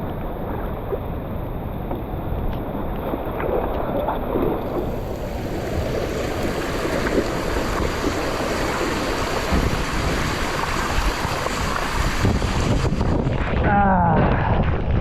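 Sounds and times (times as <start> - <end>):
strong wind buffeting microphone: 2.1 - 15.0.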